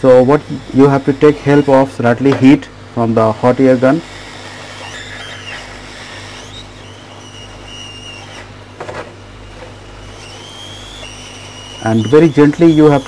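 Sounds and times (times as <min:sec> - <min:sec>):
hot air gun blowing: 0:00.0 - 0:02.2, 0:03.2 - 0:13.0.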